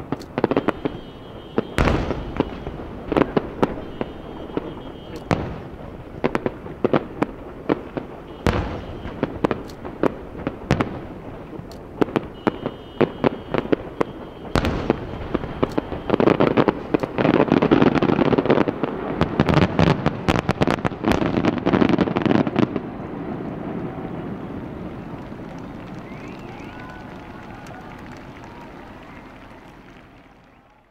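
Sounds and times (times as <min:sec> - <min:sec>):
firework shells bursting: 0:00.0 - 0:30.6.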